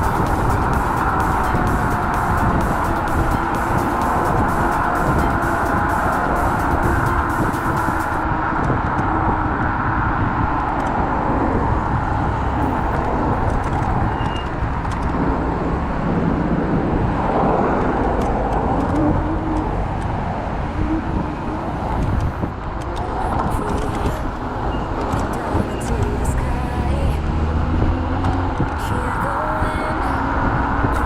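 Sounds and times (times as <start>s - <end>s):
city traffic: 0.0s - 31.0s
road noise: 0.0s - 31.0s
wind rumble on microphone: 0.0s - 31.0s.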